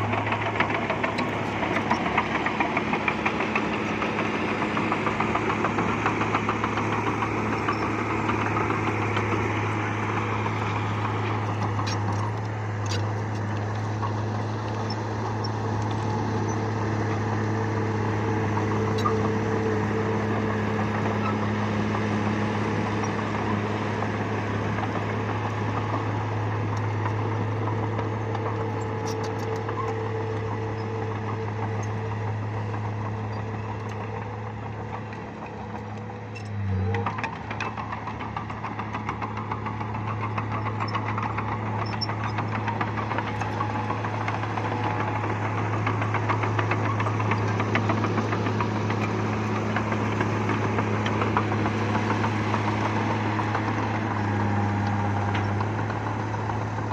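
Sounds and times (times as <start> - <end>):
bulldozer diesel engine running: 0.0 - 56.9.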